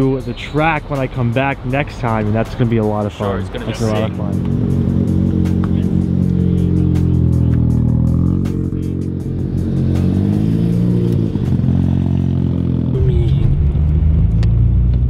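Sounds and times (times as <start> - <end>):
sports car engines revving: 0.0 - 15.0.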